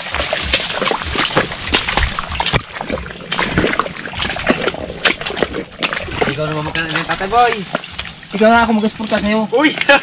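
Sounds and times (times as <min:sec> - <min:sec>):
footsteps squelching in mud: 0:00.0 - 0:10.0
leaves and branches rustling: 0:00.0 - 0:10.0.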